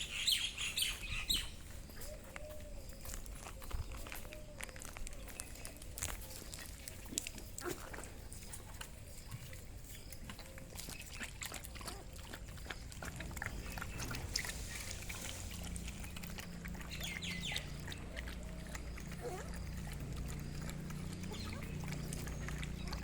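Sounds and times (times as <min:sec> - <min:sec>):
puppies lapping: 0:00.0 - 0:23.0.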